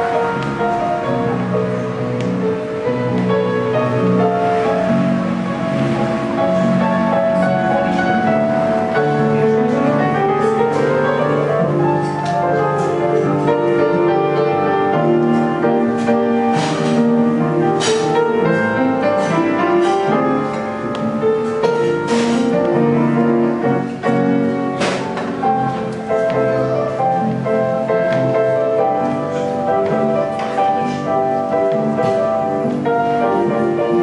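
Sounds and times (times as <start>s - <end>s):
piano melody: 0.0s - 34.0s.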